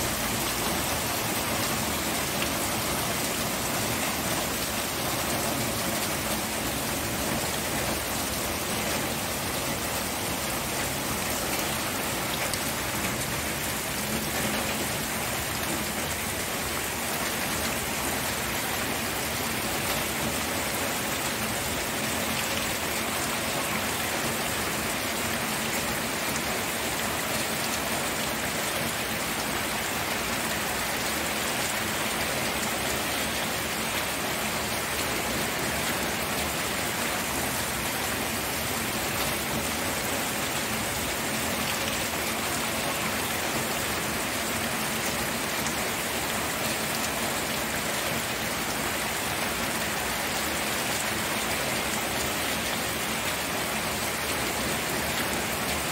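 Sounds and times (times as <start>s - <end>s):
steady rain pattering: 0.0s - 55.9s.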